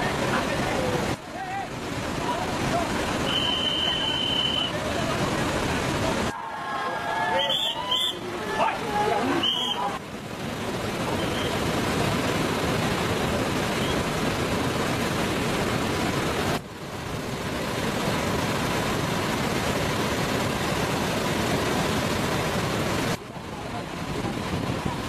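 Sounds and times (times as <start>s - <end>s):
large waterfall roaring: 0.0s - 25.0s.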